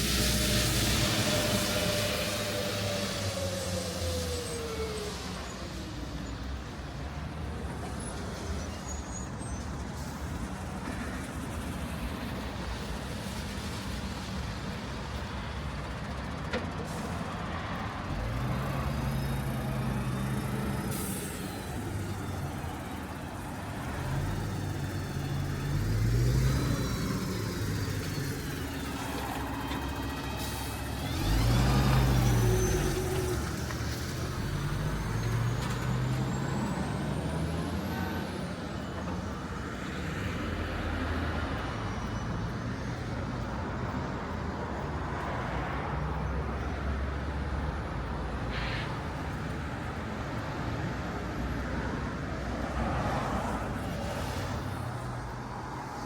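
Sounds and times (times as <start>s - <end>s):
vehicles passing by: 0.0s - 56.0s.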